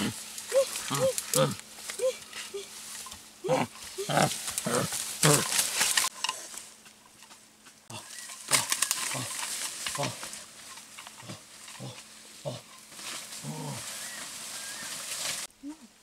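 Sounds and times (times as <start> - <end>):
leaves and brush rustling: 0.0 - 16.0.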